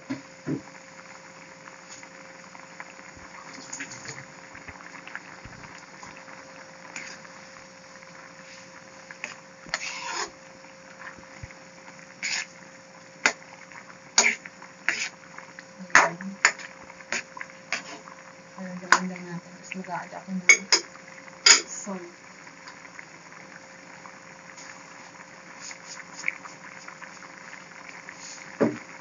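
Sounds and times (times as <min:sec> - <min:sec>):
soup boiling and bubbling: 0:00.0 - 0:29.0.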